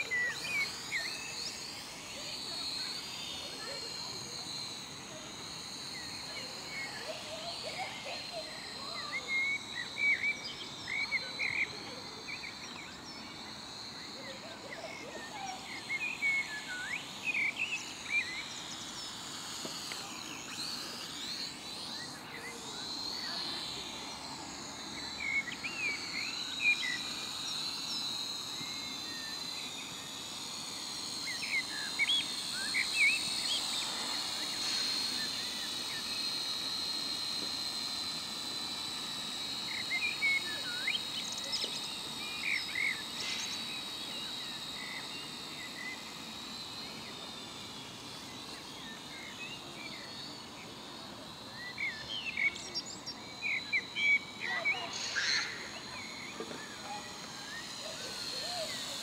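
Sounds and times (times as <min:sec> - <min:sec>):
quadcopter motors whining: 0:00.0 - 0:59.0.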